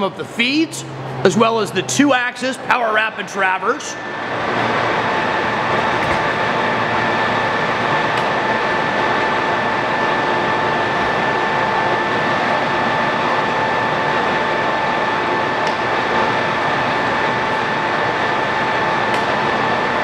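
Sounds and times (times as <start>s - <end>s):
lathe running with high whine: 0.0s - 20.0s.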